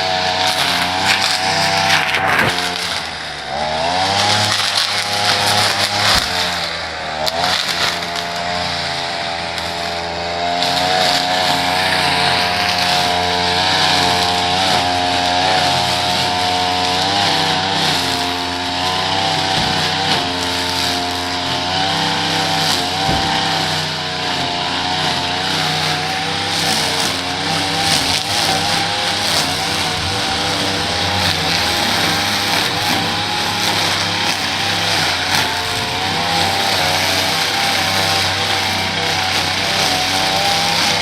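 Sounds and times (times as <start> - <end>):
small petrol engine running: 0.0 - 41.0.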